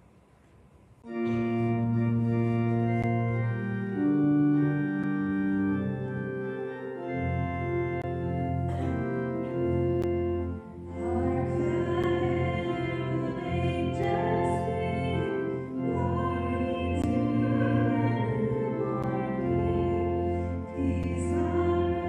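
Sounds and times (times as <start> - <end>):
church organ playing chords: 1.0 - 22.0.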